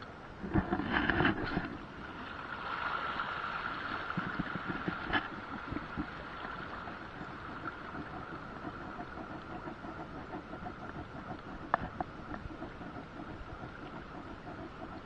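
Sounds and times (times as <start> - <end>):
light wind: 0.0 - 15.0
water lapping against boat hull: 0.0 - 15.0.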